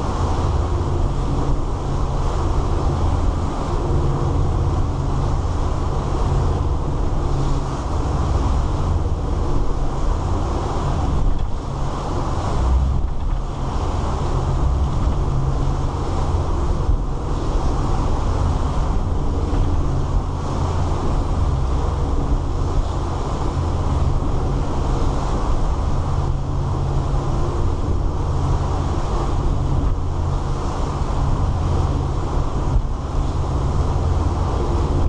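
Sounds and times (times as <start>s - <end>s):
boat engines running: 0.0s - 35.0s
wind and water rushing: 0.0s - 35.0s.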